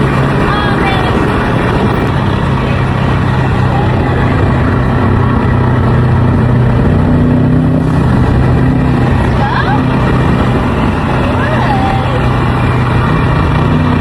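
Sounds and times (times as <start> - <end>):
car engine droning: 0.0 - 14.0
road noise: 0.0 - 14.0.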